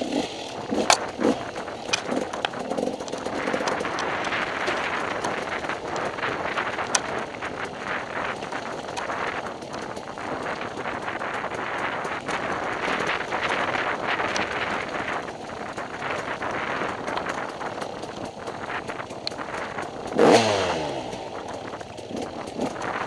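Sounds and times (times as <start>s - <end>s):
motorcycle riding rushing noise: 0.0s - 23.0s
knocks and clatters: 0.5s - 23.0s.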